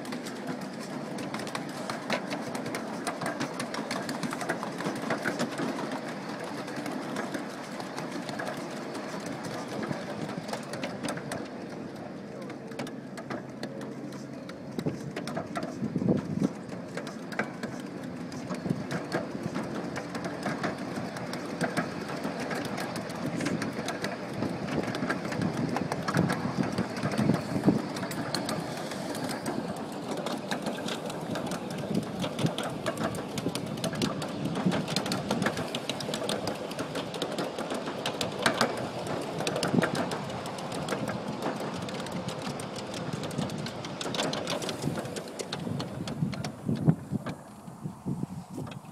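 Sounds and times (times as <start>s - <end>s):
miniature steam train clattering: 0.0s - 48.9s.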